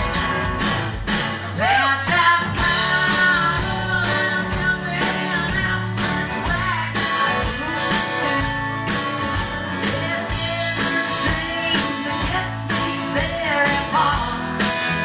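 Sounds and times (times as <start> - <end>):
electric guitar: 0.0 - 15.0
steady drum beat: 0.0 - 15.0
strummed acoustic guitar: 0.0 - 15.0
woman singing: 1.6 - 15.0.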